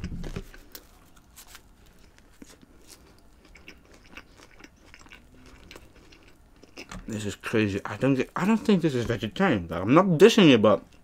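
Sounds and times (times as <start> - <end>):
chewing with crunches: 0.0 - 9.1.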